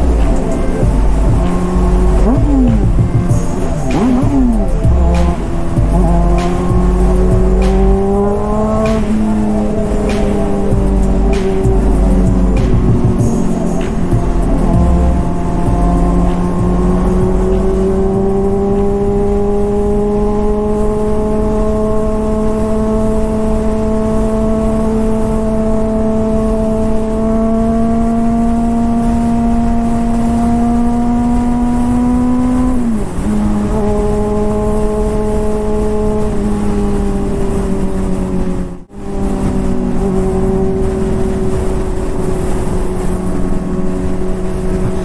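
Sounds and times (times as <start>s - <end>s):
low wind rumble: 0.0s - 45.0s
motorcycle engine under throttle: 0.0s - 45.0s.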